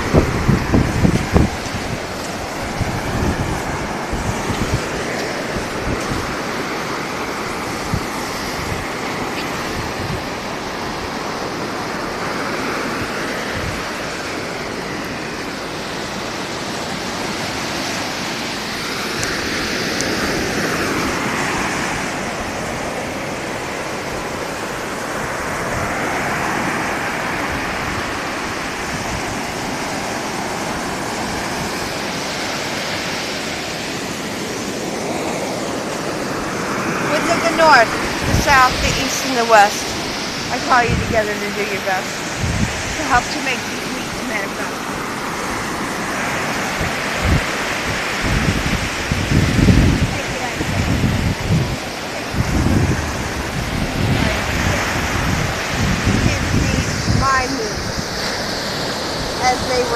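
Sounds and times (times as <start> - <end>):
ocean surf washing onto beach: 0.0 - 59.9
wind gusting on microphone: 0.0 - 59.9.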